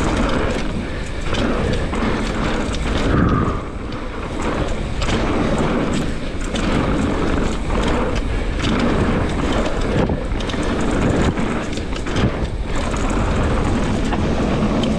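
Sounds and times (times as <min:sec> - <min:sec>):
bike clicks and rattles: 0:00.0 - 0:14.9
tyres rumbling on dirt: 0:00.0 - 0:14.9
wind buffeting microphone: 0:00.0 - 0:14.9.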